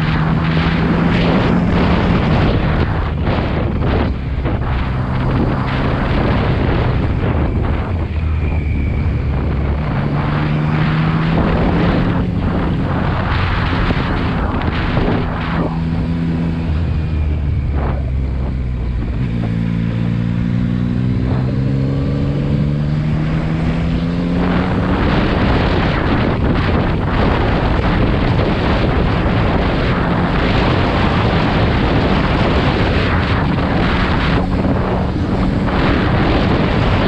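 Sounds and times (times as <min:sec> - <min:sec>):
motorcycle engine accelerating: 0:00.0 - 0:37.0
wind rush: 0:00.0 - 0:37.0.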